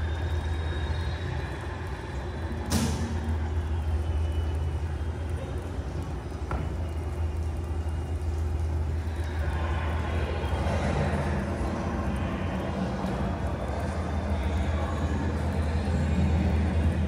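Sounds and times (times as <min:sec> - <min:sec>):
low night ambience rumble: 0:00.0 - 0:17.0.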